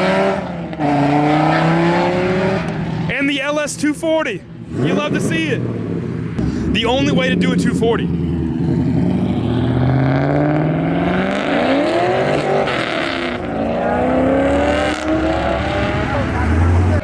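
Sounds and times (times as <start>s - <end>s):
car engine accelerating hard: 0.0s - 3.2s, 4.6s - 17.0s.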